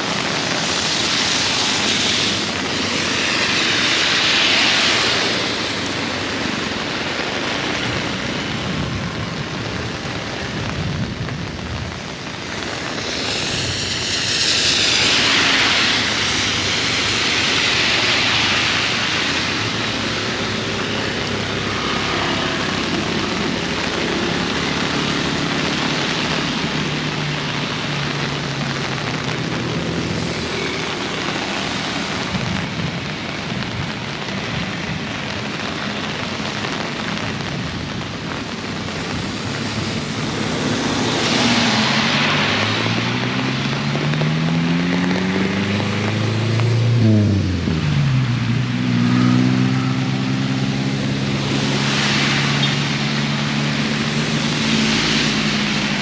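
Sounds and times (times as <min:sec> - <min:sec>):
heavy rain falling: 0:00.0 - 0:56.0
vehicle passing on wet road: 0:00.0 - 0:56.0.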